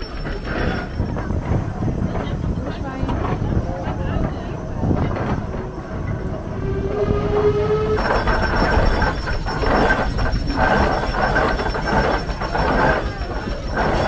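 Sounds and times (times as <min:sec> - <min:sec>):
steam engine hissing: 0:00.0 - 0:14.0.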